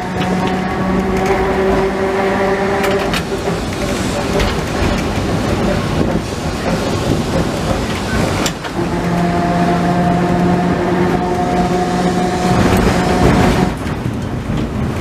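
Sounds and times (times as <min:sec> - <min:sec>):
tram wheels rumbling and rattling: 0:00.0 - 0:15.0.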